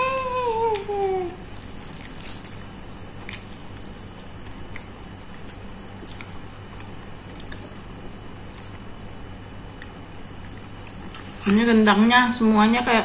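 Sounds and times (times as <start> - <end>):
steady low hum: 0.0 - 13.0
person chewing food: 0.5 - 11.4.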